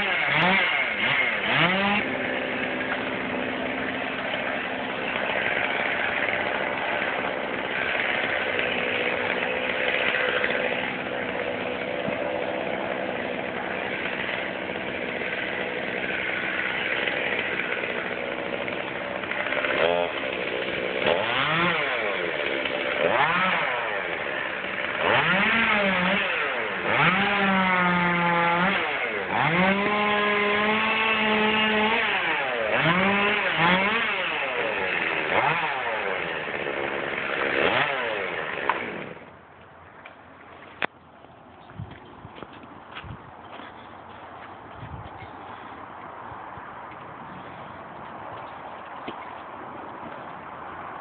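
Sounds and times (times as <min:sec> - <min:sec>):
chainsaw idling and revving: 0:00.0 - 0:39.4, 0:43.7 - 0:46.1, 0:46.9 - 0:50.7.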